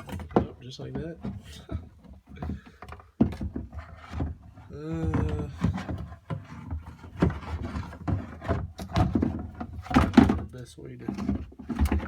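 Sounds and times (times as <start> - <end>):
parts knocking and clattering: 0.0 - 12.0.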